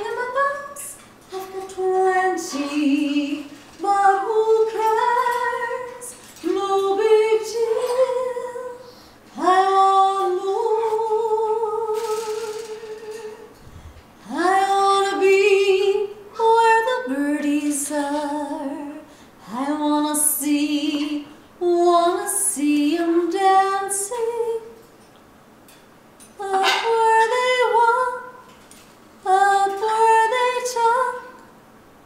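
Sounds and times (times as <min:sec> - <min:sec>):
woman singing unaccompanied: 0:00.0 - 0:13.6, 0:14.2 - 0:24.9, 0:26.4 - 0:28.5, 0:29.2 - 0:31.5.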